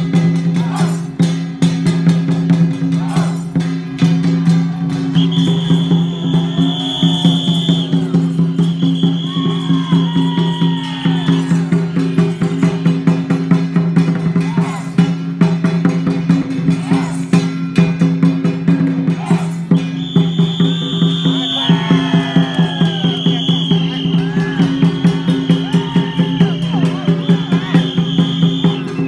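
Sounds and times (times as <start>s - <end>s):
drums: 0.0s - 29.0s.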